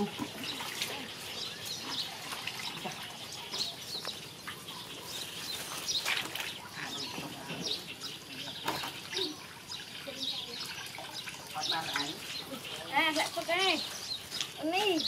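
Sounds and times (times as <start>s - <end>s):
light water splashes: 0.0s - 13.6s
outdoor background noise: 0.0s - 15.0s
small birds chirping: 0.0s - 15.0s.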